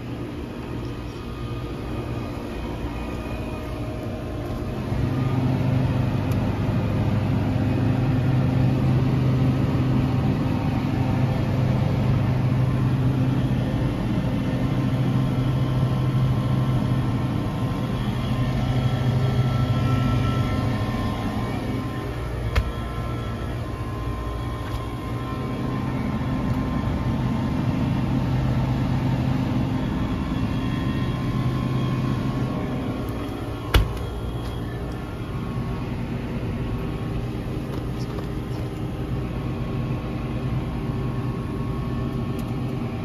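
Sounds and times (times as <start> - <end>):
refrigeration hum: 0.0 - 43.0.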